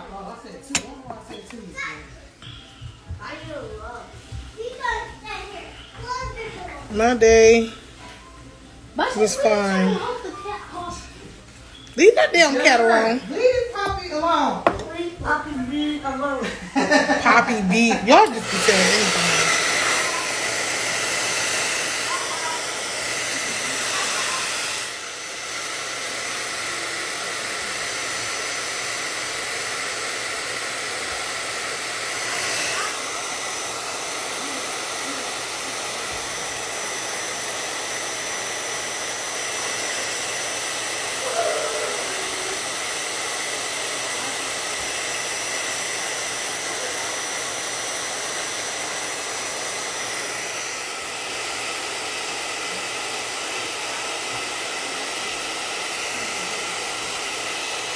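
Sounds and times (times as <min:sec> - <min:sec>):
hair dryer blowing: 0:00.0 - 0:07.9, 0:09.0 - 0:11.1, 0:11.8 - 0:57.9.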